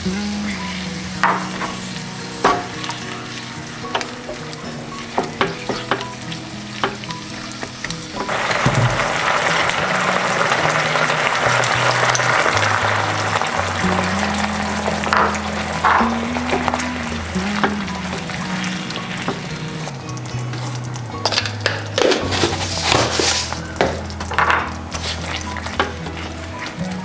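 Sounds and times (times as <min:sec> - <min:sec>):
vegetables sizzling in a pan: 0:00.0 - 0:27.0.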